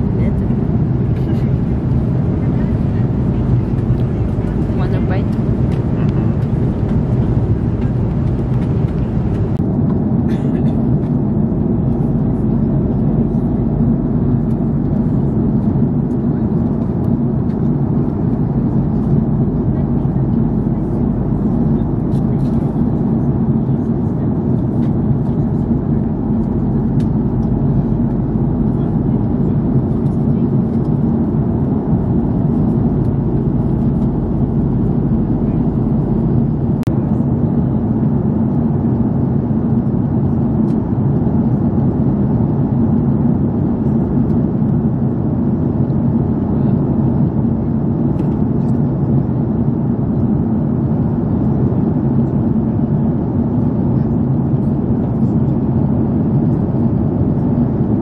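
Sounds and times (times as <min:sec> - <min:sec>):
airliner cabin engine hum: 0:00.0 - 0:58.0.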